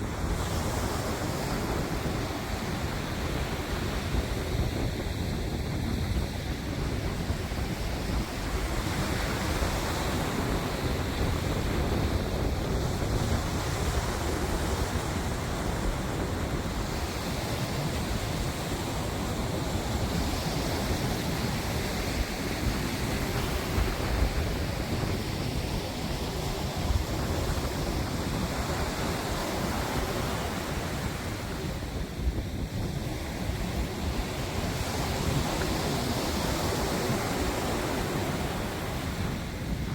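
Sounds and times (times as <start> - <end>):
surf rushing: 0.0 - 39.9
wind gusting across microphone: 0.0 - 39.9.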